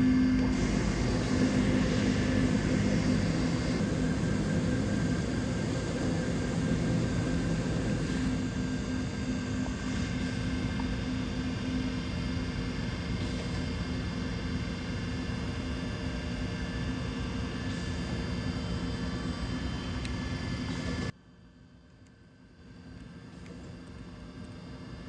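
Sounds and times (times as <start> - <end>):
machining centre mechanical hum: 0.0 - 21.4.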